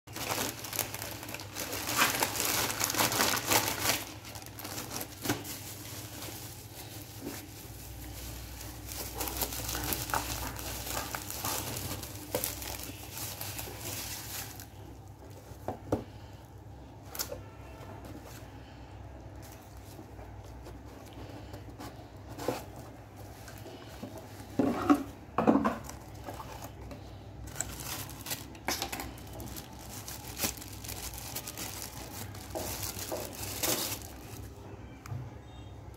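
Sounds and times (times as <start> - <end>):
plastic bag and bubble wrap crinkling: 0.1 - 34.8.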